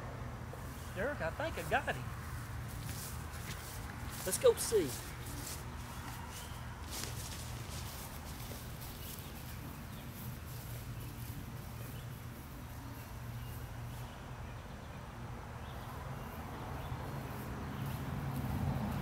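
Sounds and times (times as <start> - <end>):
footsteps in grass: 0.6 - 14.7, 15.8 - 19.0.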